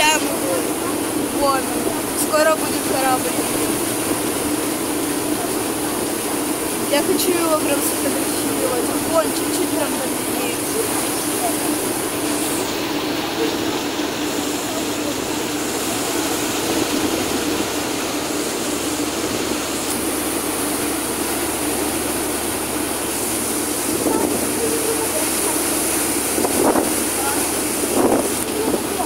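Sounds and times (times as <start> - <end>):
motor boat engine droning: 0.0 - 29.0
wind and water rushing: 0.0 - 29.0.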